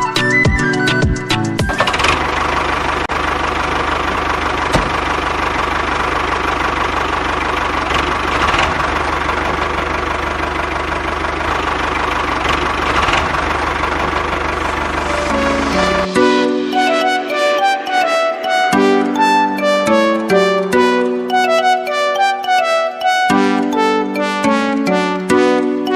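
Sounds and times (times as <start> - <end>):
diesel engine idling: 1.4 - 23.2.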